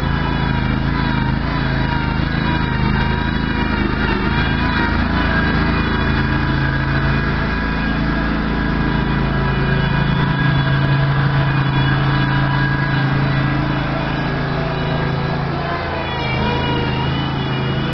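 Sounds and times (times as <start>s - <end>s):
backhoe engine running: 0.0s - 17.9s.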